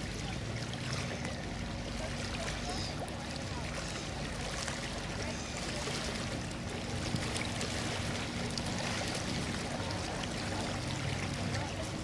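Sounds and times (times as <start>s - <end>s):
ship diesel engines humming: 0.0s - 12.0s
water washing: 0.0s - 12.0s.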